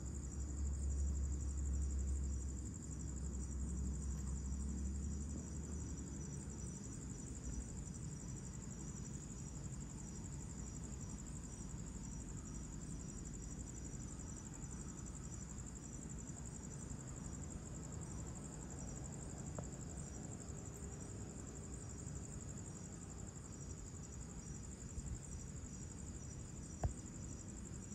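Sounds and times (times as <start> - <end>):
low steady rumble: 0.0 - 22.6
crickets trilling: 0.0 - 27.9.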